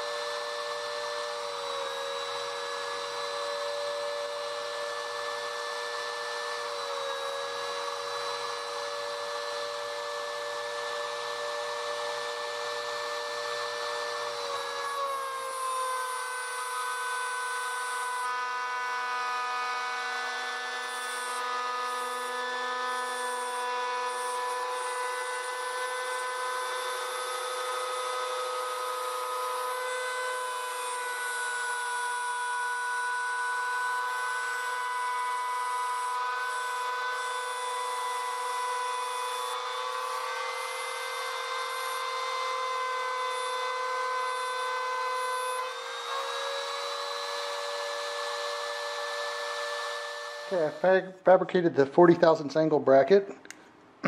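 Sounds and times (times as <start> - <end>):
cnc router spindle whining: 0.0 - 51.2.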